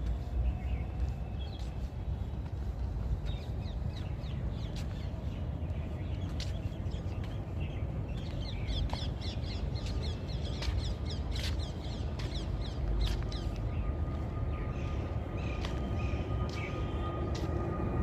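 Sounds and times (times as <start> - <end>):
birds chirping: 0.0 - 17.2.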